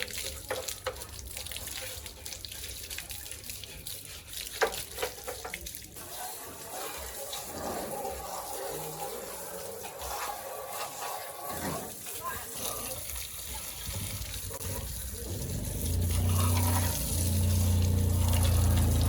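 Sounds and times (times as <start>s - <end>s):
water running and splashing: 0.0s - 19.0s.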